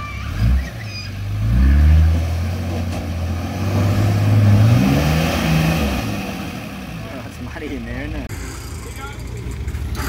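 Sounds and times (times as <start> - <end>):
vehicle engine working under load: 0.0 - 10.0.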